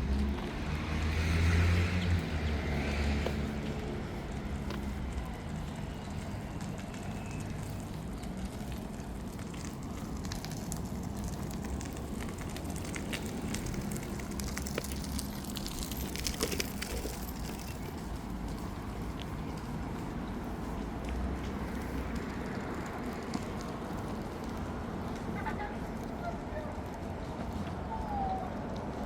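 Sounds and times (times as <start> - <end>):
traffic hum: 0.0 - 29.0.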